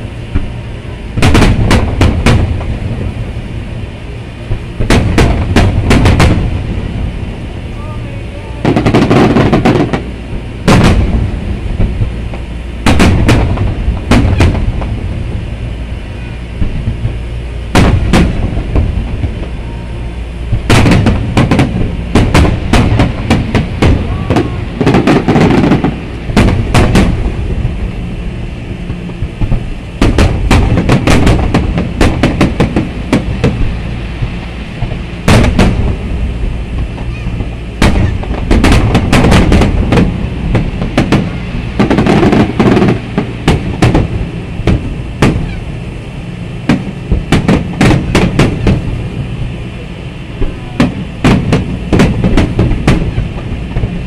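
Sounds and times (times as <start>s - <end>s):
low rumble: 0.0s - 54.0s
firework shells bursting: 1.2s - 2.9s, 4.5s - 6.8s, 8.6s - 15.4s, 16.5s - 19.6s, 20.3s - 45.6s, 46.6s - 49.6s, 50.8s - 54.0s.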